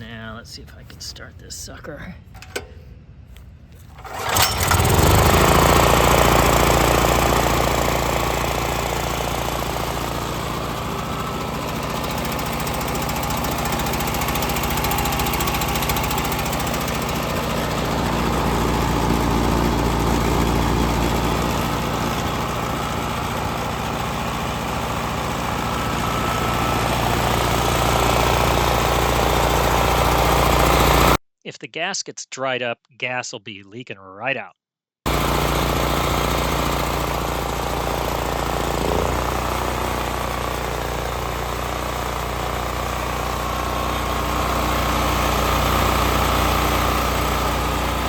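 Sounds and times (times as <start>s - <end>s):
portable generator engine running: 2.3s - 3.0s, 3.7s - 31.2s, 35.1s - 48.0s.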